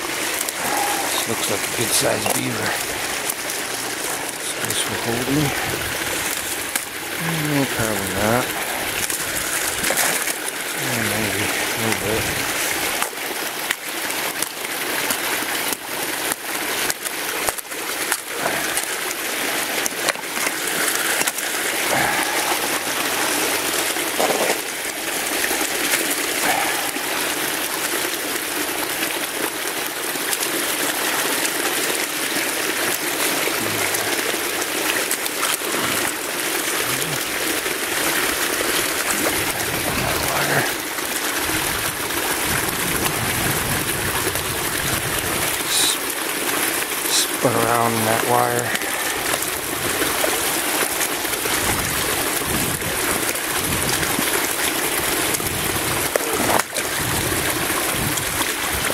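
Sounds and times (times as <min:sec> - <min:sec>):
icy water sloshing and splashing: 0:00.0 - 0:58.9.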